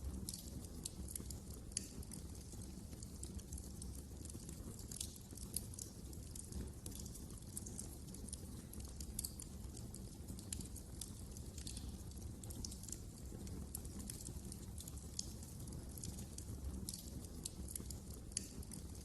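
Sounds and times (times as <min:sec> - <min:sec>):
low rumble of burning: 0:00.0 - 0:19.0
wood fire crackling: 0:00.0 - 0:19.0.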